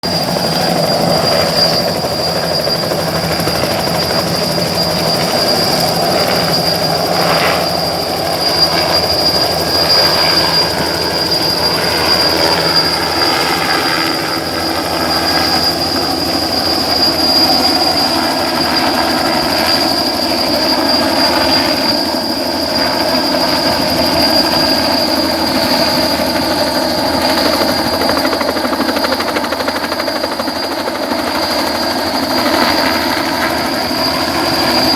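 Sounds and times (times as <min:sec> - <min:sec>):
helicopter engine and rotor: 0:00.0 - 0:34.9
high-pitched whine: 0:00.0 - 0:34.9.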